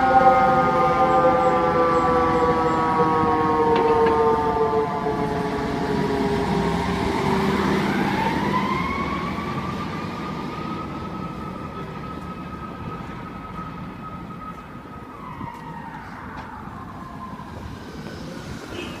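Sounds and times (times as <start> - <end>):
fire siren wailing: 0.0 - 19.0.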